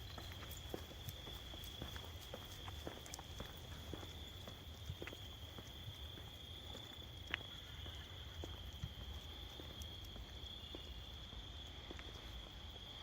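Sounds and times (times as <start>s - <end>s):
soft footstep clicks: 0.0s - 12.5s
crickets chirping: 0.0s - 13.0s.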